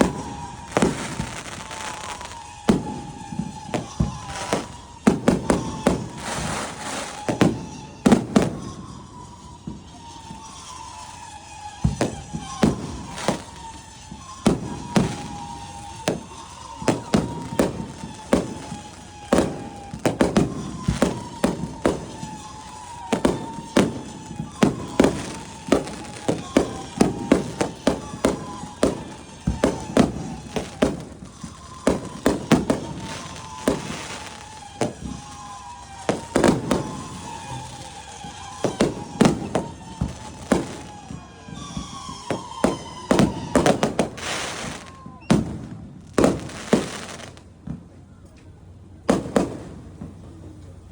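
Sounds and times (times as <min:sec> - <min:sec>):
fireworks bangs: 0:00.0 - 0:50.9.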